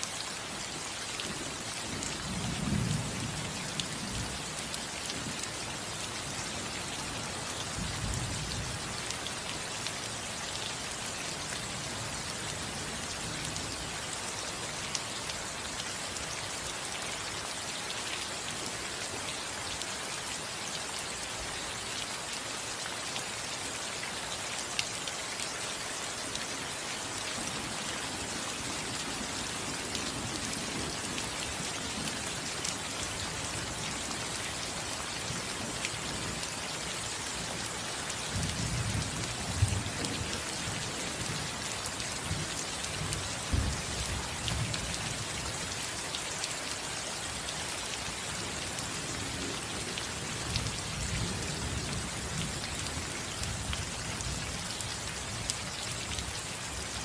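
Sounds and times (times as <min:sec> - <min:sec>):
rain on a roof: 0:00.0 - 0:57.0.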